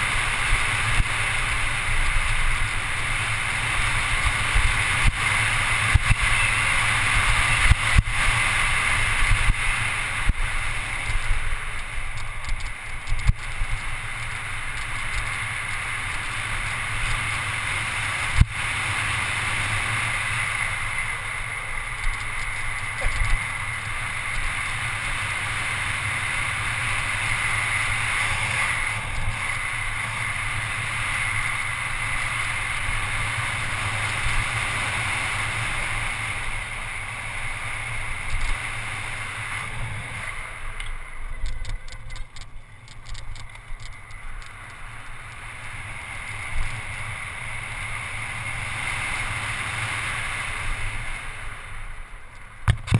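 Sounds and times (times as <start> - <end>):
bike tyres rolling on asphalt: 0.0 - 52.9.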